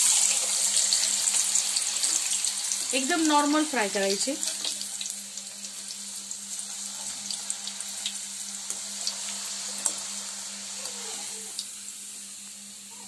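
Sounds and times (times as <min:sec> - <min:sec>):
potatoes sizzling in hot oil: 0:00.0 - 0:13.0.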